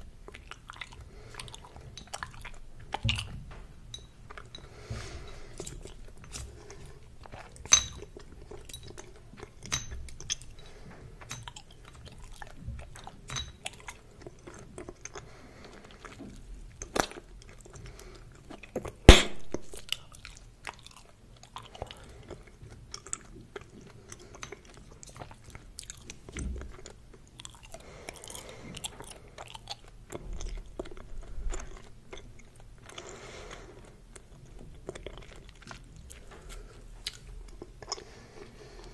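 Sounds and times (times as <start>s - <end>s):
gum chewing clicks and smacks: 0.0s - 3.4s, 5.4s - 38.9s.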